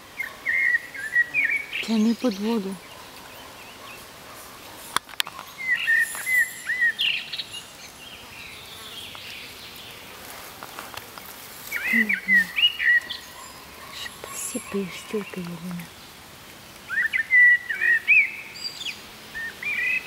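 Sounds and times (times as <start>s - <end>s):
birds chirping: 0.0s - 16.2s, 16.8s - 20.0s.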